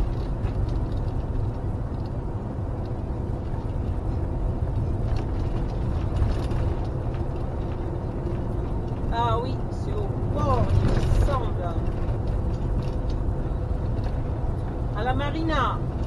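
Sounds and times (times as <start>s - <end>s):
light clicks and rattles: 0.0s - 14.9s
motorhome engine rumble: 0.0s - 16.0s
road noise: 0.0s - 16.0s.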